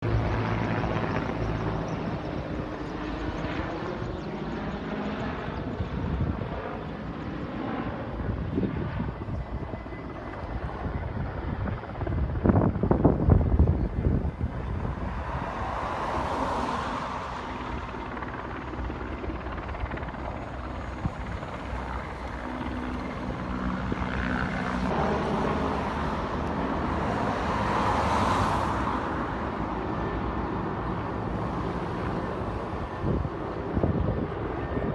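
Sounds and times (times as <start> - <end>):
aircraft engines droning: 0.0 - 34.9.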